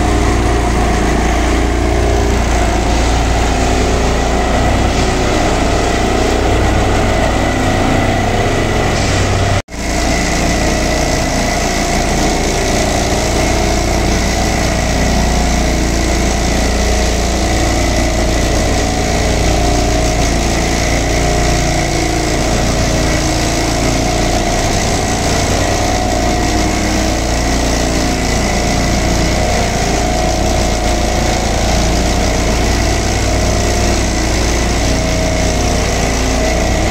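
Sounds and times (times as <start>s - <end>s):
diesel machinery running: 0.0s - 36.9s.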